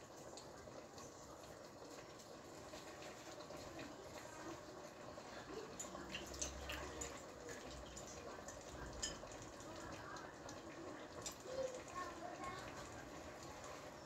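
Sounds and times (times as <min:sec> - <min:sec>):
tomatoes simmering hiss: 0:00.0 - 0:14.0.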